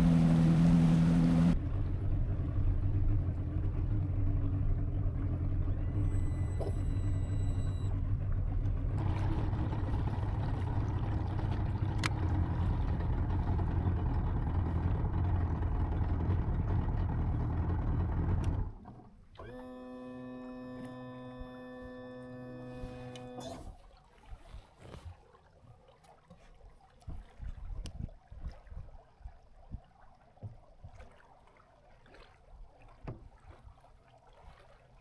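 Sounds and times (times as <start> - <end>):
outboard boat motor running: 0.0 - 25.0, 30.4 - 35.0
hull and water noise: 0.0 - 35.0.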